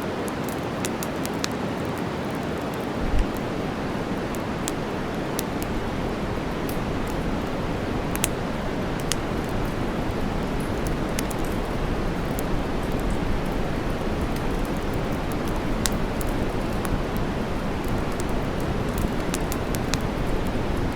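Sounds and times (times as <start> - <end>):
campfire crackling and popping: 0.1 - 20.9.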